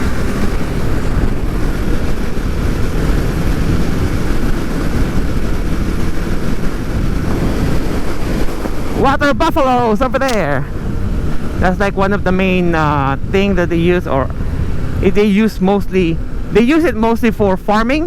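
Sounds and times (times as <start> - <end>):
motorcycle engine running: 0.0 - 18.0
wind rush over microphone: 0.0 - 18.0.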